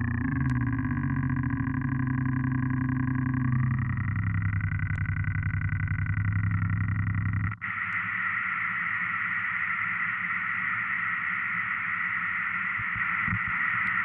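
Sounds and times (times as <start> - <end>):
harsh static-like hiss: 1.8 - 14.0.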